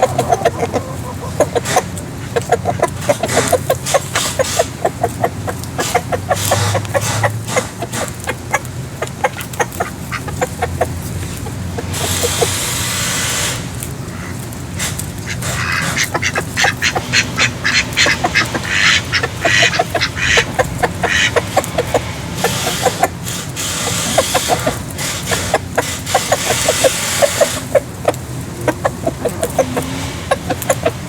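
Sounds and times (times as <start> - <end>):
ducks quacking: 0.0 - 31.0.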